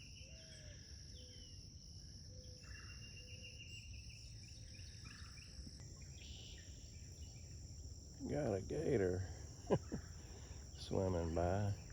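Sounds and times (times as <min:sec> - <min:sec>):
insects droning: 0:00.0 - 0:11.9.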